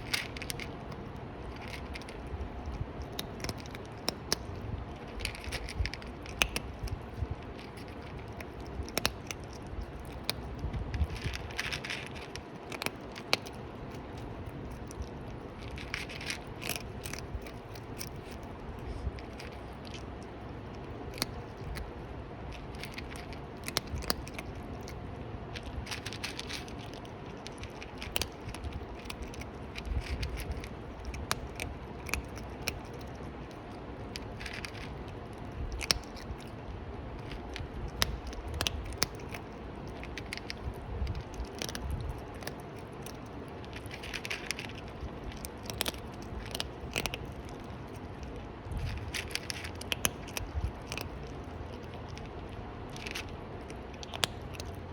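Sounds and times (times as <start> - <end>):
chewing crunchy food: 0.0 - 54.9.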